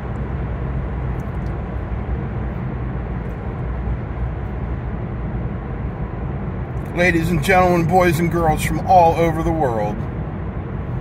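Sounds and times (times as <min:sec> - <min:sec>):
car road rumble and engine: 0:00.0 - 0:11.0.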